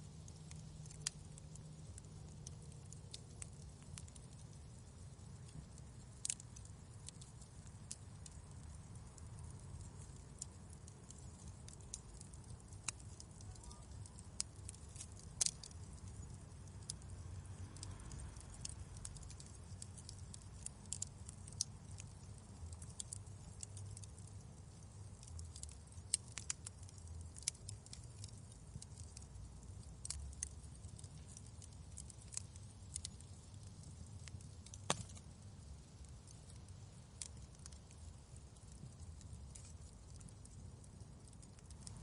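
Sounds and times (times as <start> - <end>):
fireplace fire crackling: 0.0 - 42.0.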